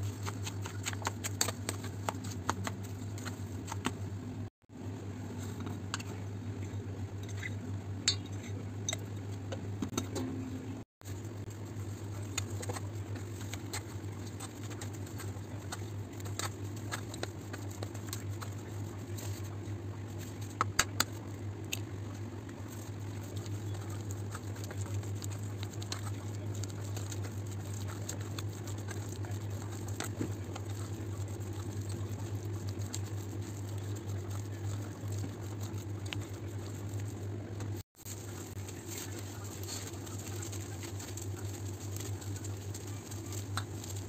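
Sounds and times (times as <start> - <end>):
spoon mashing soft mixture: 0.0 - 4.4, 11.0 - 44.0.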